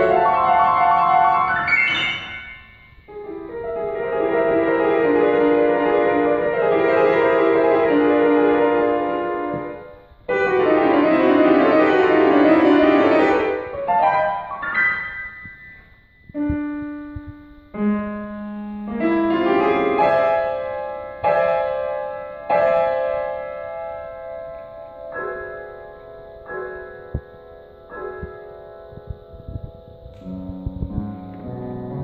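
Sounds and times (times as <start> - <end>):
solo grand piano: 0.0 - 32.0.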